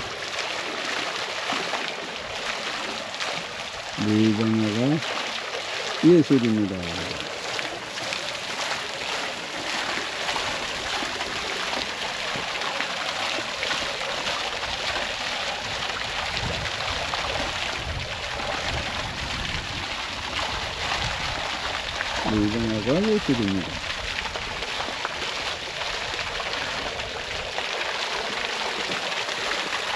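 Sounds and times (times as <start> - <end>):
water splashing at mill wheel: 0.0 - 29.9.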